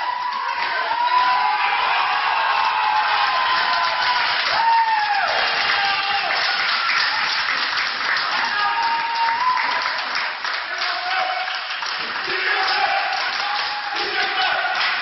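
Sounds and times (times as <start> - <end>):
crowd clapping and cheering: 0.0 - 15.0.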